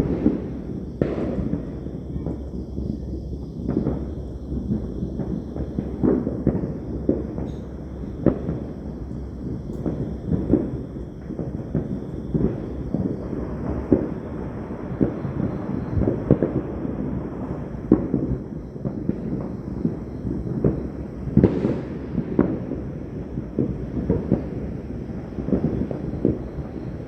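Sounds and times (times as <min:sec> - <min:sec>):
continuous low rumble: 0:00.0 - 0:27.0
fireworks bangs: 0:00.0 - 0:27.0.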